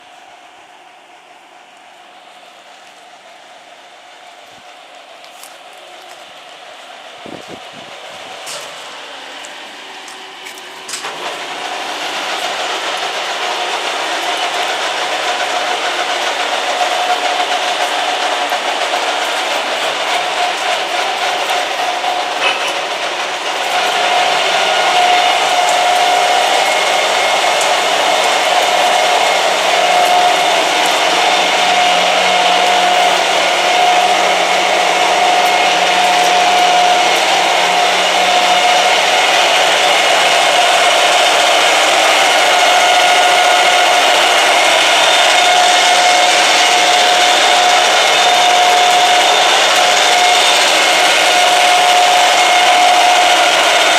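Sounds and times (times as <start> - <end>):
metal lathe whirring: 0.0 - 53.9.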